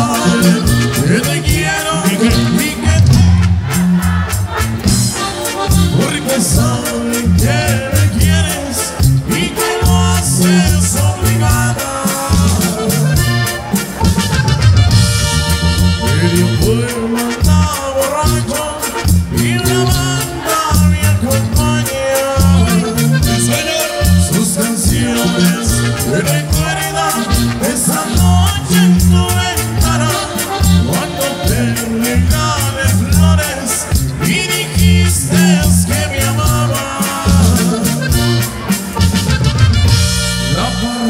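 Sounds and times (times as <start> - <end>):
drums and bass beat: 0.0 - 41.0
live band playing dance music: 0.0 - 41.0.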